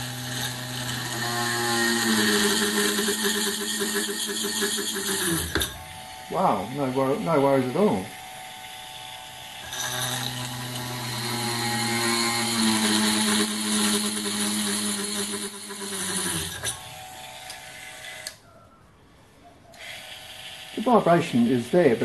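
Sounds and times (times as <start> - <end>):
electric drill drilling steel: 0.0 - 18.4, 19.8 - 22.0.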